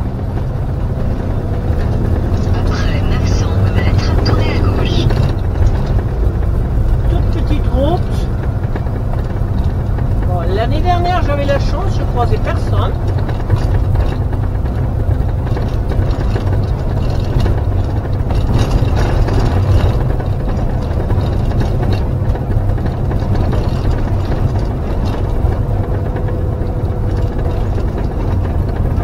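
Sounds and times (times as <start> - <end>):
van engine and road rumble: 0.0 - 29.0.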